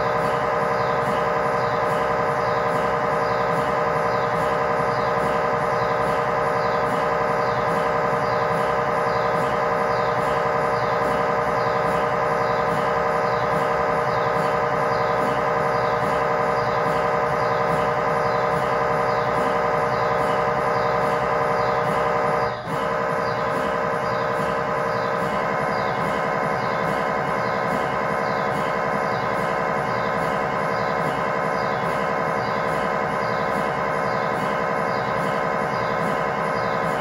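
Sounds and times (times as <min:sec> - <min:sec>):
mri scanner buzzing drone: 0:00.0 - 0:37.0.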